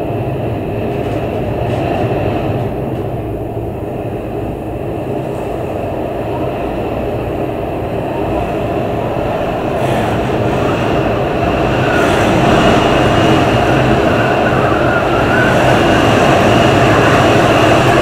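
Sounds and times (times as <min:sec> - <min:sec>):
strong wind roaring: 0:00.0 - 0:18.0.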